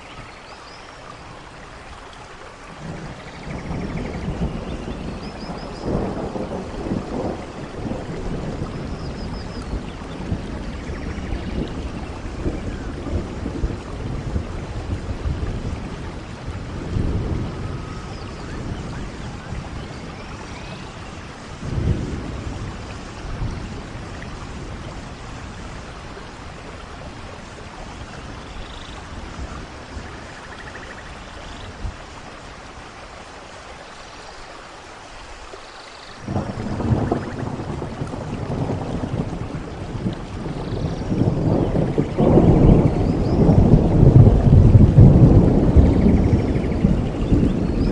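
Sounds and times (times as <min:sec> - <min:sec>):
heavy rain: 0:00.0 - 0:47.9
thunder rumbling: 0:02.6 - 0:32.8, 0:36.2 - 0:47.9.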